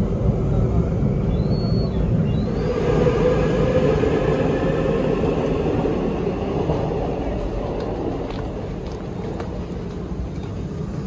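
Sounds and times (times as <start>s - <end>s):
faint rising whine: 0.0s - 11.0s
vehicle rumble: 0.0s - 11.0s.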